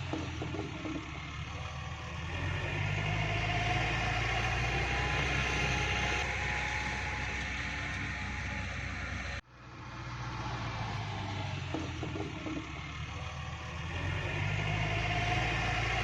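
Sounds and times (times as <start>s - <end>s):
faint rising whine: 0.0s - 16.0s
tractor engine running: 0.0s - 16.0s.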